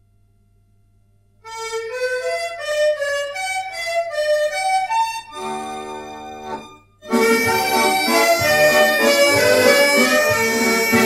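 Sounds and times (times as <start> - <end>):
held chord: 1.5 - 11.0
slow reed instrument melody: 1.5 - 11.0.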